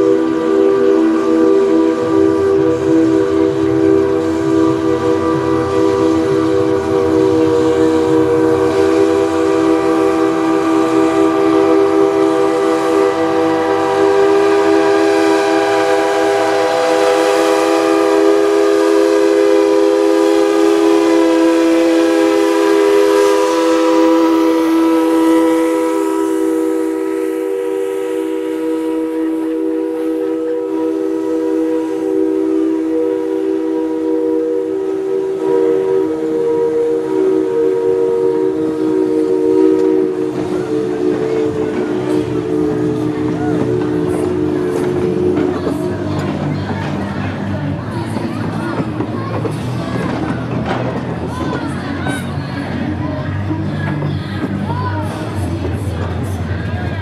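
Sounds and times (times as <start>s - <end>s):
steam locomotive chime whistle: 0.0s - 47.8s.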